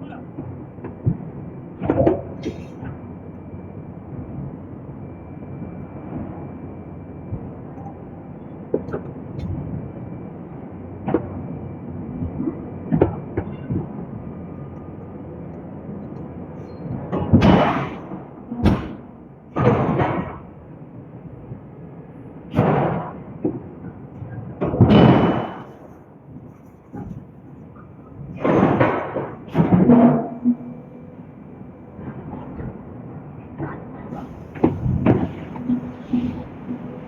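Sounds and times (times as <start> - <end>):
workshop machinery noise: 0.1 - 37.0.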